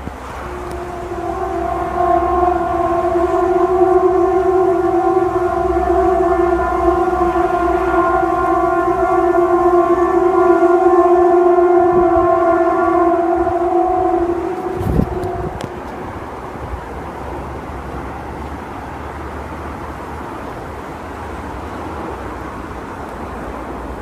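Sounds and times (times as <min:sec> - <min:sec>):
siren-like drone: 0:00.0 - 0:22.8.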